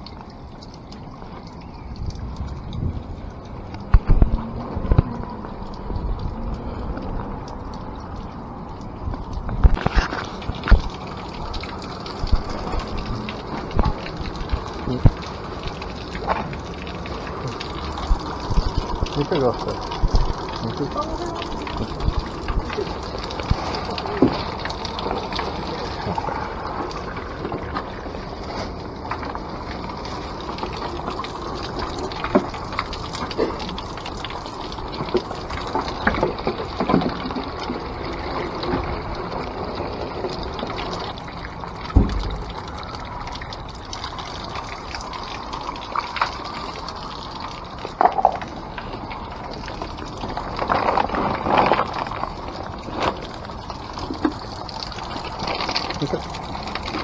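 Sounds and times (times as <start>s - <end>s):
water running into a plastic jug: 0.0s - 57.0s.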